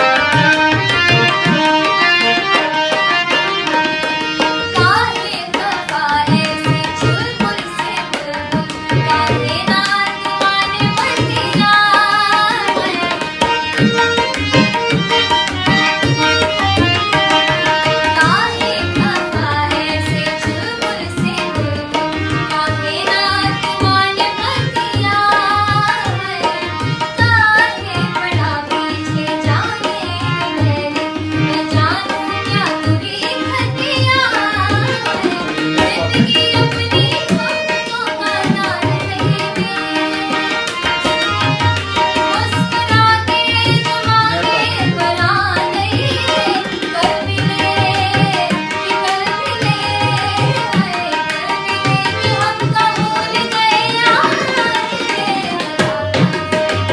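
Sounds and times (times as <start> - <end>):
tabla drumming: 0.0 - 56.9.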